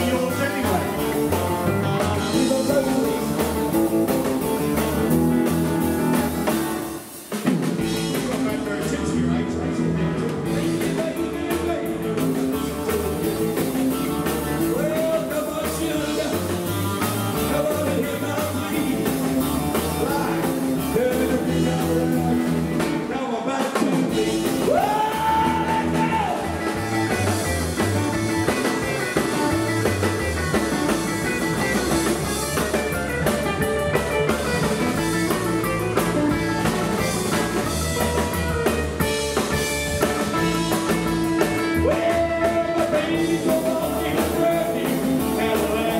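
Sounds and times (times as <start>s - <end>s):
rockabilly band playing live: 0.0s - 45.9s.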